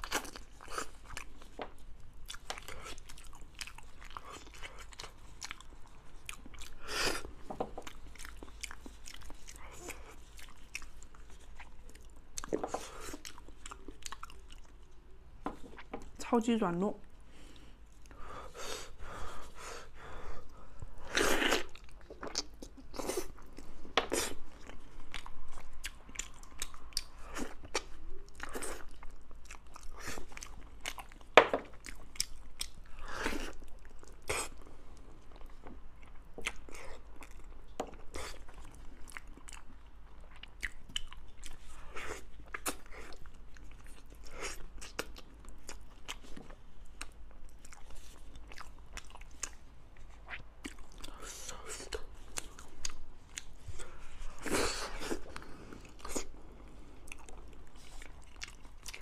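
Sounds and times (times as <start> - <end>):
chewing and wet mouth smacks: 0.0 - 16.2, 20.5 - 59.0.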